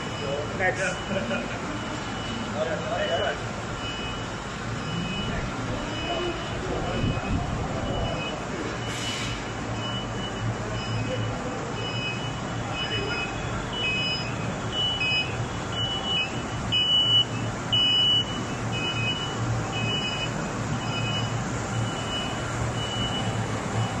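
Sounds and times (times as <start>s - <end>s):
high-pitched beeps: 0.0s - 24.0s.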